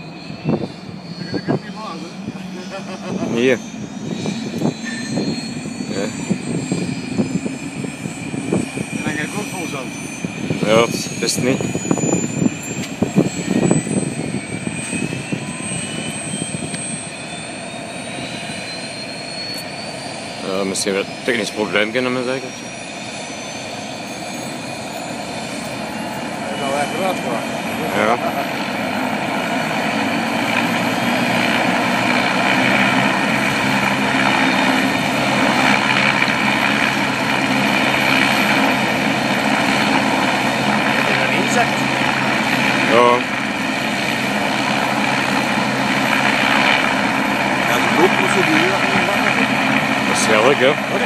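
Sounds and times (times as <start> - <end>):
helicopter turbine engine whine: 0.0 - 51.0.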